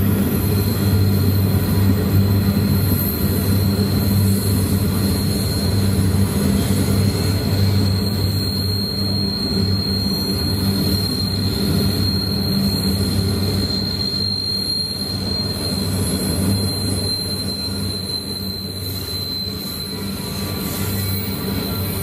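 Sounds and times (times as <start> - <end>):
train wagons rumbling on rails: 0.0 - 22.0
high-pitched wheel squeal: 0.1 - 22.0.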